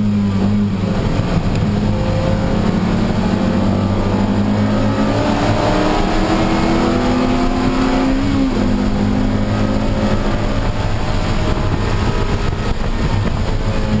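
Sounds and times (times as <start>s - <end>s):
race car engine pulling hard: 0.0s - 14.0s.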